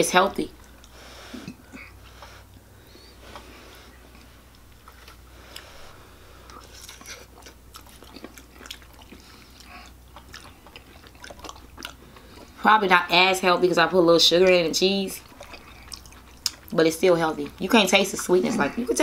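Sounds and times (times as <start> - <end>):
people chewing food: 0.5 - 13.0, 14.3 - 19.0.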